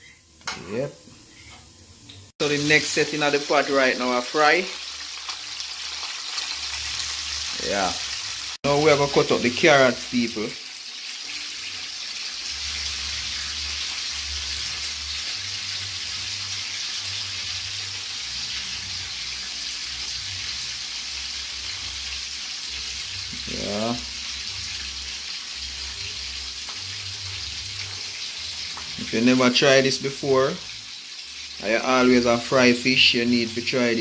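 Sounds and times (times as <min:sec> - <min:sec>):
fish frying in hot oil: 0:02.4 - 0:34.0.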